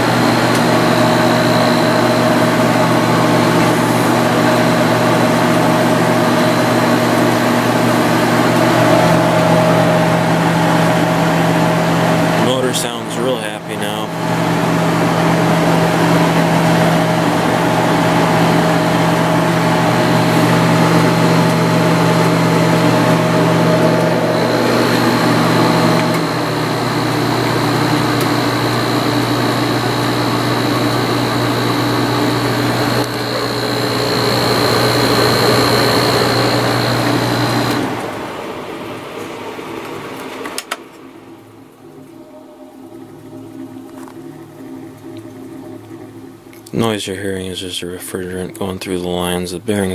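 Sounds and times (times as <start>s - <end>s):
compressor humming: 0.0s - 49.9s
faint high whine: 0.0s - 49.9s
fan motor running: 0.0s - 49.9s.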